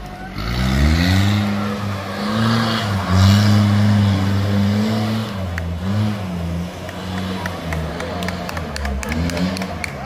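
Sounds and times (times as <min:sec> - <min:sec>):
engine revving: 0:00.2 - 0:10.0.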